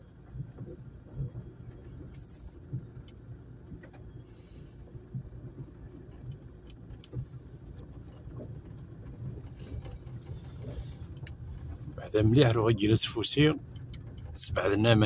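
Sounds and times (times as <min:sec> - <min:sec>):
car engine and tyres rumbling: 0:00.0 - 0:15.0
knocks and rattles over bumps: 0:00.0 - 0:15.0.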